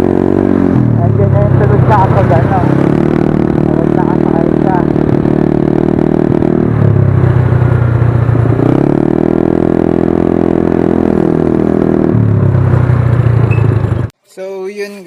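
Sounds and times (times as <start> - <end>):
scooter engine revving: 0.0 - 14.1.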